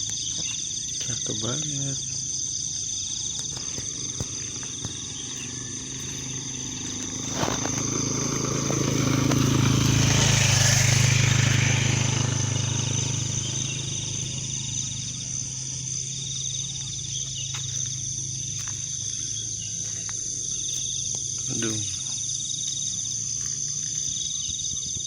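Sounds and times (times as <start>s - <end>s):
insects chirring: 0.0s - 25.0s
truck engine running: 0.0s - 25.0s.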